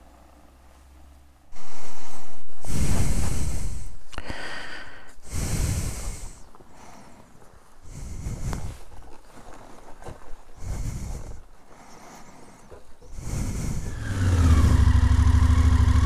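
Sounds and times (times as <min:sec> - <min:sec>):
person breathing heavily: 0:01.5 - 0:15.0.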